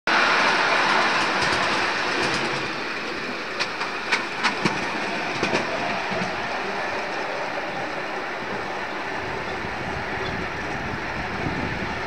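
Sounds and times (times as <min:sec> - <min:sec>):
miniature train rumbling on track: 0:00.1 - 0:12.0
wheels clicking over rail joints: 0:00.4 - 0:11.7.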